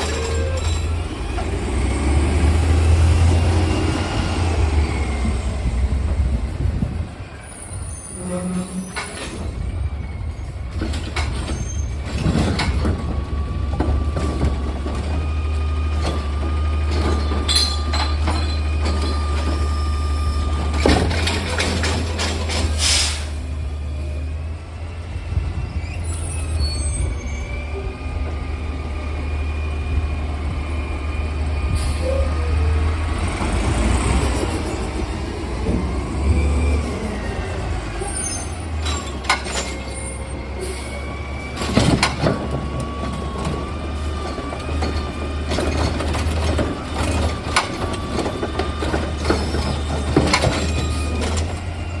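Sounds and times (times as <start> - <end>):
diesel engine rumbling: 0.0 - 52.0.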